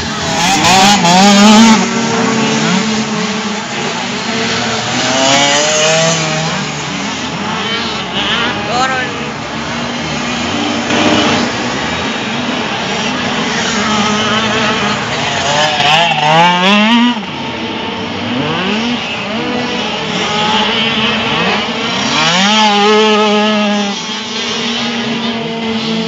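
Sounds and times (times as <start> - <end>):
motorcycles accelerating hard: 0.0 - 26.0
other motorcycles running: 0.0 - 26.0.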